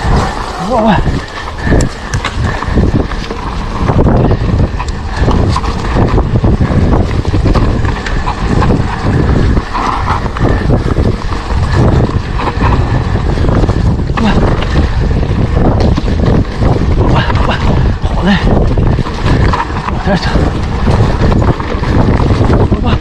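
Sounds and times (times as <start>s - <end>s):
mountain bike rattling: 0.0s - 23.0s
wind buffeting microphone: 0.0s - 23.0s.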